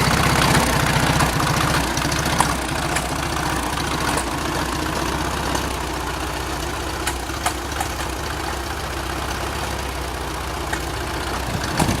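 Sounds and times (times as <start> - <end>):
engine popping: 0.0 - 12.0
tractor engine idling: 0.0 - 12.0.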